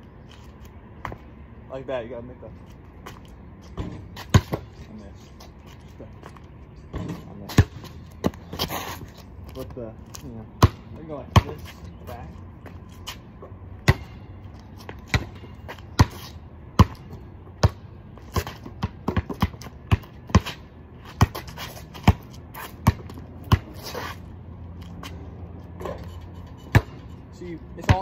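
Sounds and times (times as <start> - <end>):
basketball bouncing on hard ground: 1.0 - 1.3, 2.9 - 28.0.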